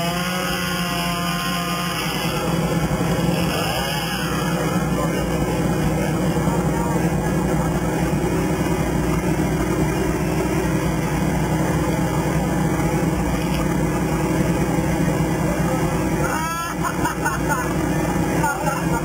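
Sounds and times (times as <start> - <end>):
engine low rumble: 0.0 - 19.0.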